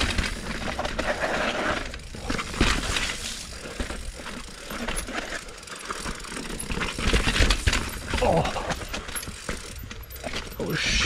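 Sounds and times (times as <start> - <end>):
bike tyres rolling over rock: 0.0 - 10.8
bike chain and frame rattling: 0.0 - 11.0.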